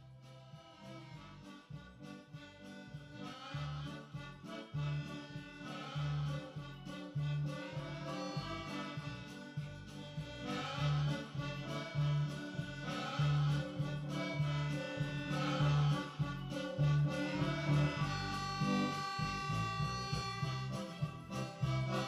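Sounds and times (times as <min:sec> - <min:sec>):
instrumental background music: 0:00.0 - 0:22.0
rhythmic bass line: 0:00.0 - 0:22.0.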